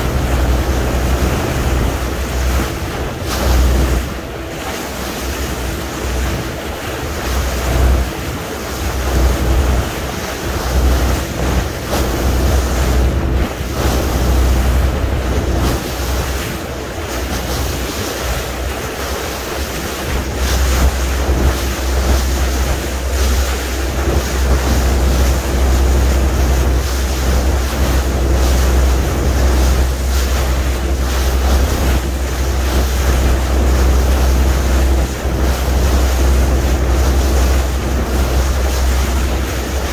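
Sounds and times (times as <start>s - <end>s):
boat engine hum: 0.0s - 39.9s
water splashing along hull: 0.0s - 39.9s
wind buffeting microphone: 0.0s - 39.9s.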